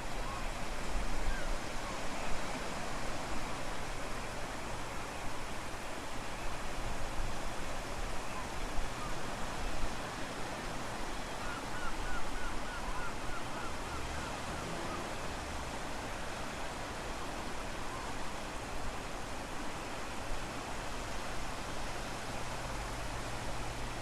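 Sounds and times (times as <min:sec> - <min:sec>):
surf washing: 0:00.0 - 0:24.0.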